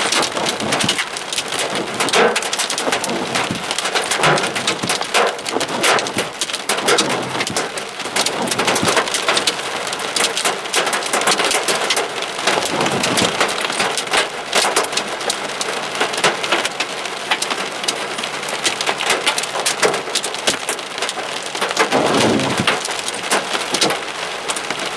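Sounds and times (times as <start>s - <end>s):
hail clattering on a car: 0.0s - 24.9s
heavy rain rushing: 0.0s - 24.9s.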